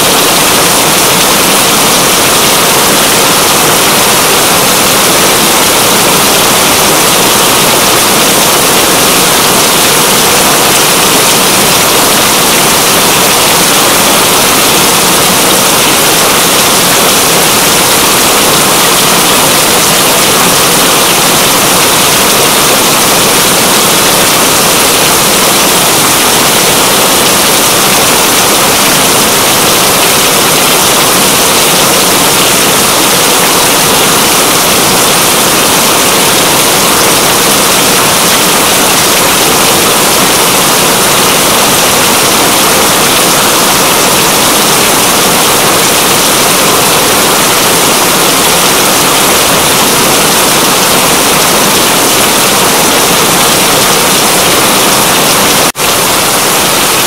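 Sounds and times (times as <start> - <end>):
loud steady rainfall: 0.0 - 57.0.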